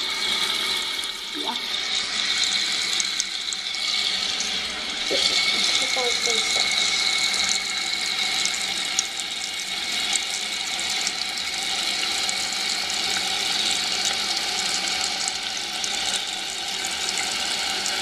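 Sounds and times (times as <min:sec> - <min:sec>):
toilet tank refilling: 0:00.0 - 0:18.0.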